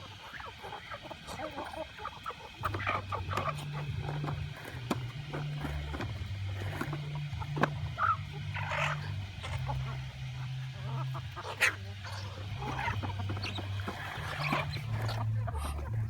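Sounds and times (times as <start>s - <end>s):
chickens making short calls: 0.0s - 16.0s
steady low hum: 0.0s - 16.0s.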